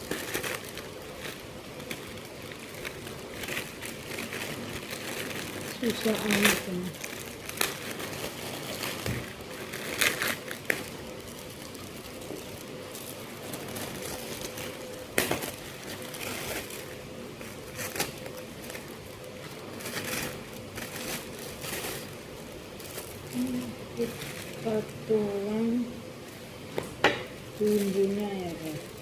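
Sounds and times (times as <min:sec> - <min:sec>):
plastic bag crinkling: 0:00.0 - 0:29.0.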